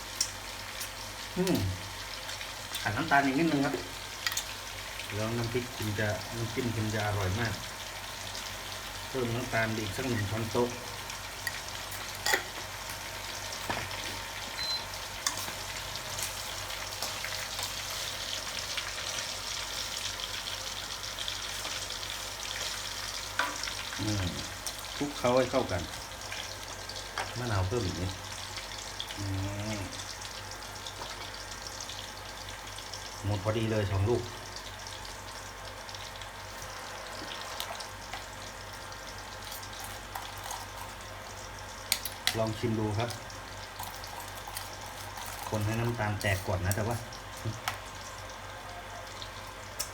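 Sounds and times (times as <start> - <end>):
meat sizzling in hot oil: 0.0 - 49.9.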